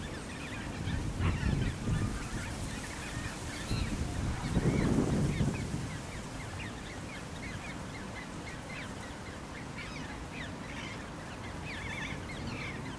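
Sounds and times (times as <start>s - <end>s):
bird chicks peeping: 0.0s - 12.9s.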